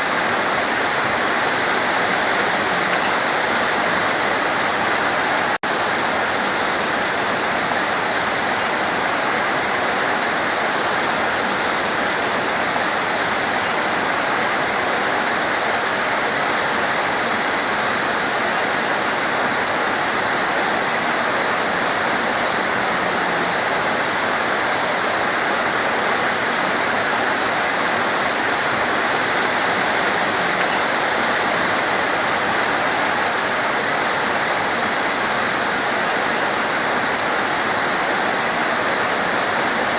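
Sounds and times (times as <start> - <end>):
torrential rain falling: 0.0 - 39.9.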